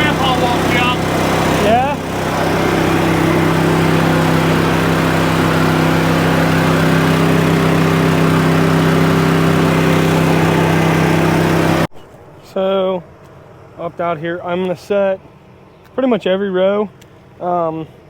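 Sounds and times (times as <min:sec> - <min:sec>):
engine droning steadily: 0:00.0 - 0:18.0.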